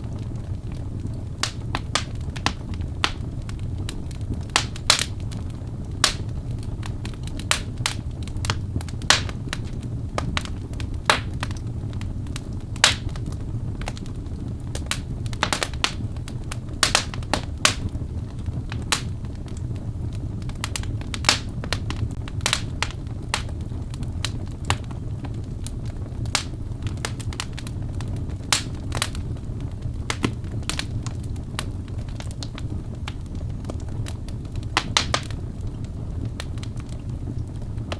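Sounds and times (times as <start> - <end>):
burning logs crackling and popping: 0.0 - 37.9
low rumble of flames: 0.0 - 37.9.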